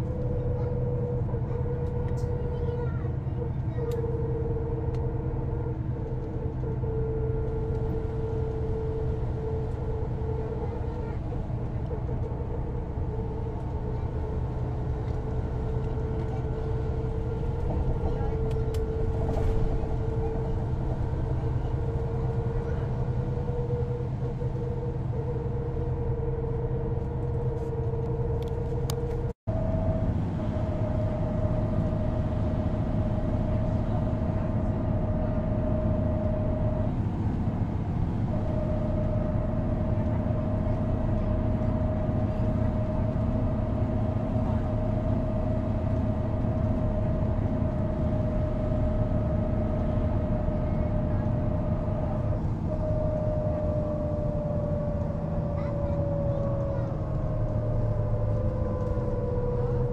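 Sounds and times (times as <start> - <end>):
bus engine drone: 0.0 - 59.9
constant whine: 0.0 - 59.9.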